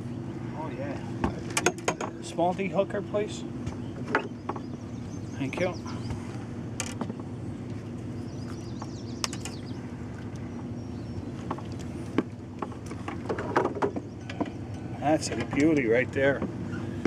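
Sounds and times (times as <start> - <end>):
birds chirping: 0.0 - 17.0
boat motor humming: 0.0 - 17.0.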